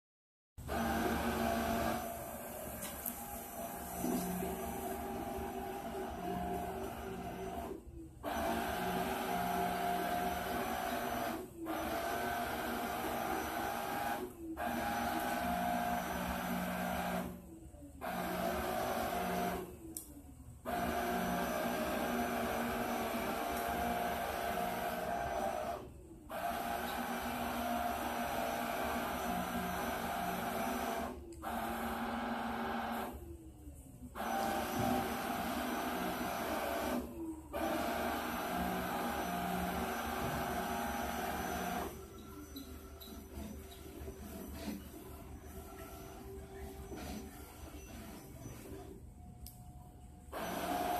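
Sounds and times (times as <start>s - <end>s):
robot vacuum cleaner whirring: 0.6s - 49.0s, 50.2s - 50.9s.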